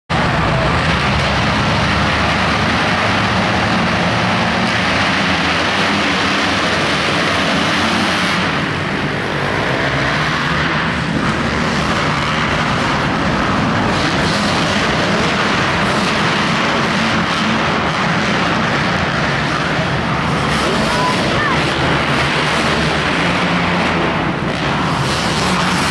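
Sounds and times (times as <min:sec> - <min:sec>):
dirt bike engines revving: 0:00.1 - 0:25.9.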